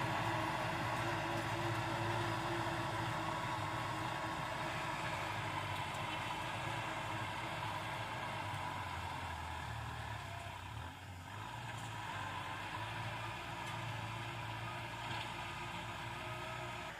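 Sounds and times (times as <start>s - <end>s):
diesel tractor engine running: 0.0s - 16.9s.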